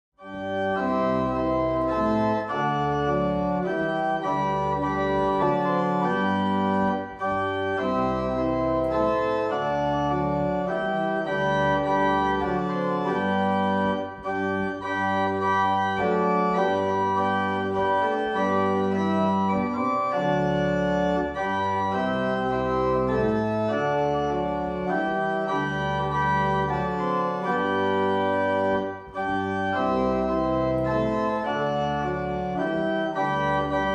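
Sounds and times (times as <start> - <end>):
organ playing sustained chords: 0.2 - 33.9.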